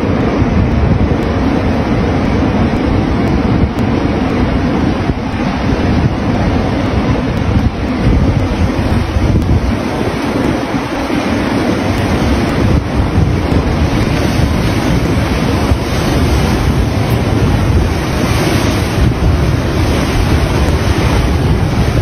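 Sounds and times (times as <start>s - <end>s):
waves breaking against seawall: 0.0s - 22.0s
wind buffeting microphone: 0.0s - 22.0s.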